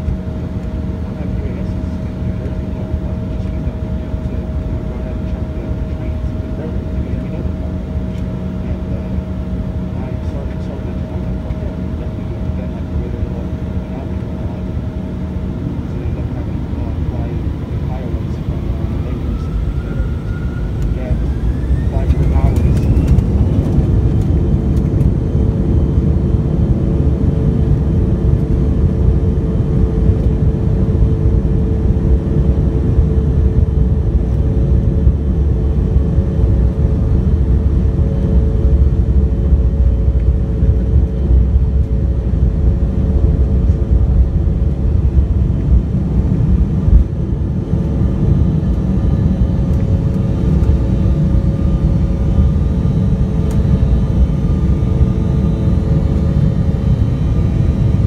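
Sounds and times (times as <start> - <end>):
jet engine drone: 0.0 - 58.0.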